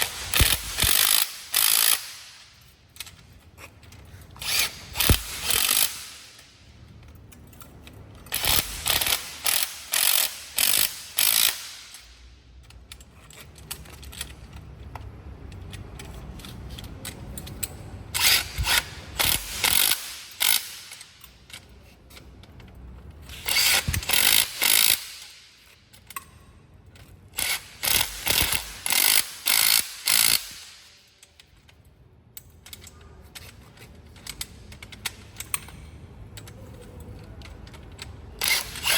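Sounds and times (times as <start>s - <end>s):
impact wrench rattling: 0.0s - 31.7s, 36.5s - 38.9s.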